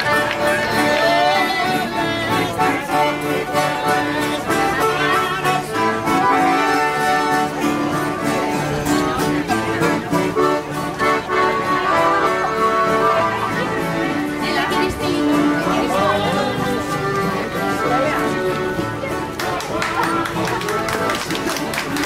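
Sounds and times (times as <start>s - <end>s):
accordion held notes: 0.0s - 22.0s
acoustic guitars strumming: 0.0s - 22.0s.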